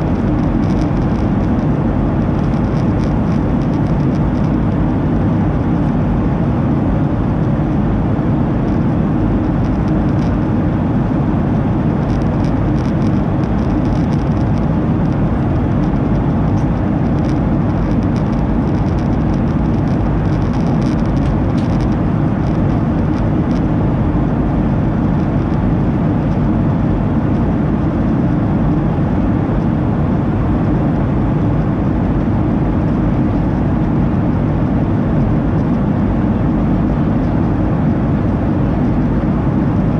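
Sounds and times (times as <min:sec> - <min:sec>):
airplane cabin engine and airflow rush: 0:00.0 - 0:39.9.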